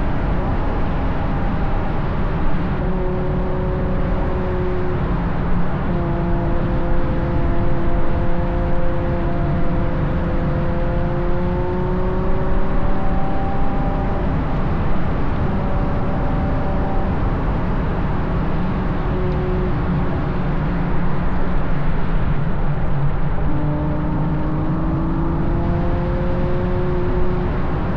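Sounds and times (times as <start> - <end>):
car engine cruising: 0.0 - 27.9
wind and tyre noise: 0.0 - 27.9.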